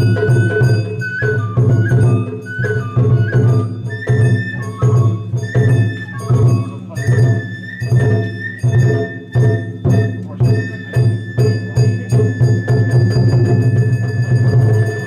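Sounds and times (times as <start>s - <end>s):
bamboo flute melody: 0.0s - 15.0s
taiko drum beats: 0.0s - 15.0s.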